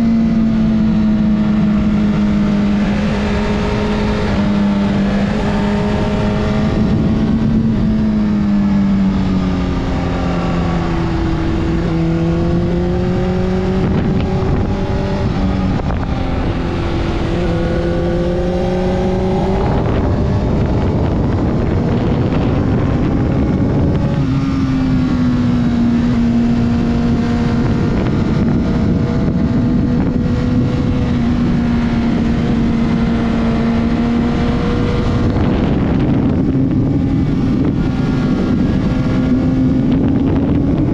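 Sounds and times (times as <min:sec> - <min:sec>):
motorcycle engine: 0:00.0 - 0:40.9
wind rushing over microphone: 0:00.0 - 0:40.9.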